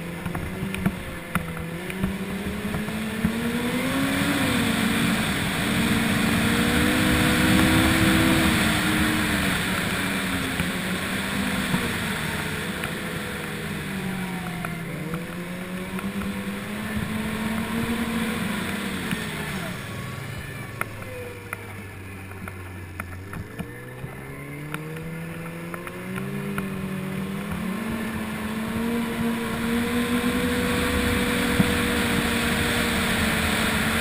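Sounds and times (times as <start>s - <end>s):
snowmobile engine running: 0.0s - 34.0s
wind and track hiss: 0.0s - 34.0s.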